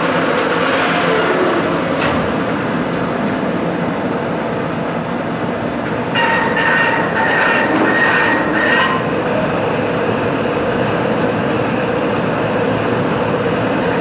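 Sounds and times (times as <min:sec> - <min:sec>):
metal-cutting machine running: 0:00.0 - 0:14.0.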